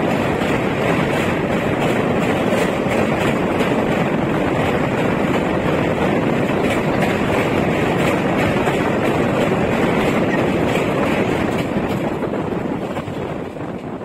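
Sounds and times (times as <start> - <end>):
train wheels running on rails: 0.0 - 14.0.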